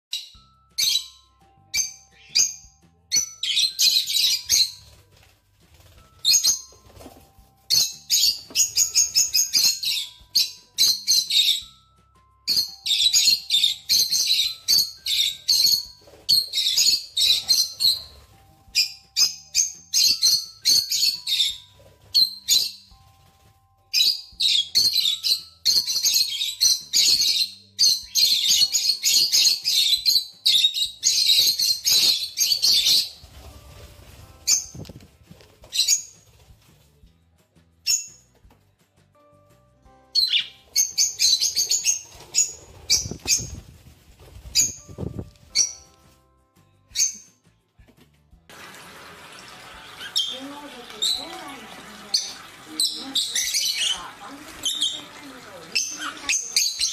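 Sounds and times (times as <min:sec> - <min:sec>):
lovebirds chirping: 0:00.1 - 0:36.4, 0:39.9 - 0:46.3, 0:46.9 - 0:47.4, 0:49.7 - 0:56.9.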